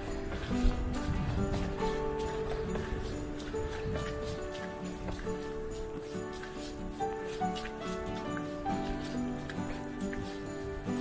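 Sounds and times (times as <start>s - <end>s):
background music of held notes: 0.0s - 11.0s.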